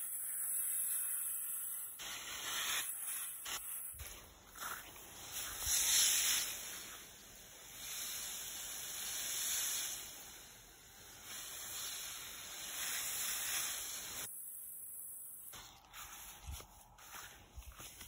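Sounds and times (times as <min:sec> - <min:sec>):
garden hose spraying water: 0:00.0 - 0:18.0.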